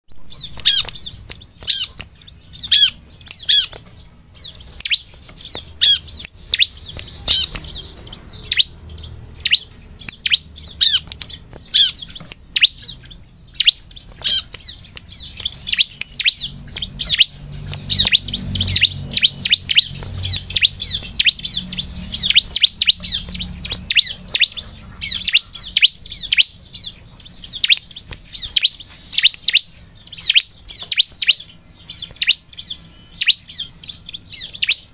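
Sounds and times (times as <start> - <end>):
bird chirping rapidly: 0.1 - 34.9.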